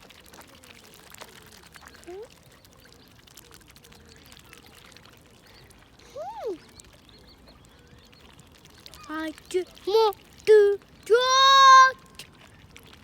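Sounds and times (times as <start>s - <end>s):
faint trickling water: 0.0s - 13.0s.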